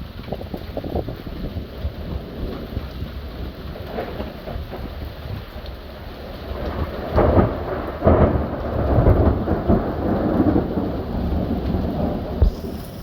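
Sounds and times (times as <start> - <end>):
steady rain: 0.0 - 13.0
thunder cracks and rumble: 0.0 - 13.0.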